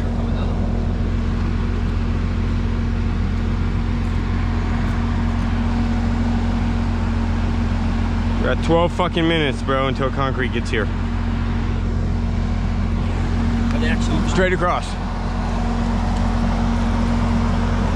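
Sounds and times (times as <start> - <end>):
diesel truck engine droning: 0.0 - 17.9.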